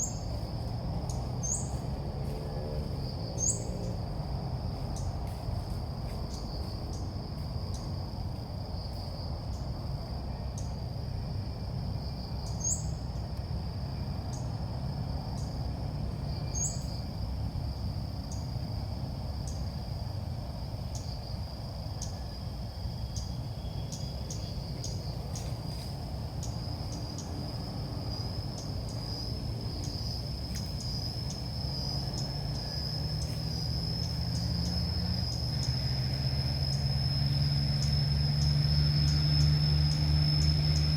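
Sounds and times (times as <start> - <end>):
insect drone: 0.0 - 40.9
low background rumble: 0.0 - 40.9.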